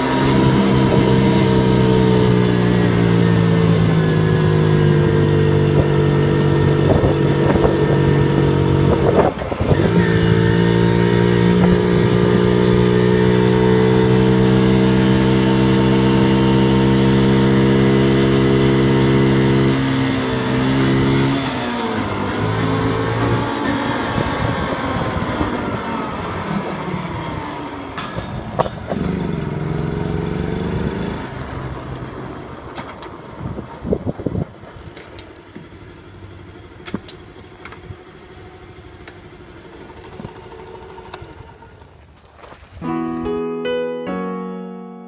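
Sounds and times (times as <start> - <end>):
small motorcycle engine running: 0.0 - 42.2.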